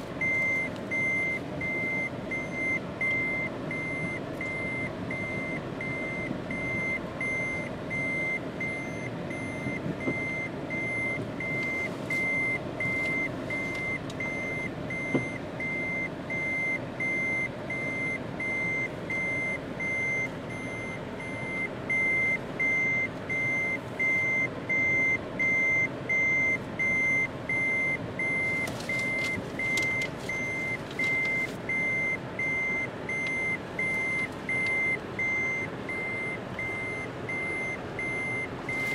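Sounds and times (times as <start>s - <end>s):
low hum of vehicle: 0.0s - 38.9s
reverse warning beeper: 0.2s - 38.9s.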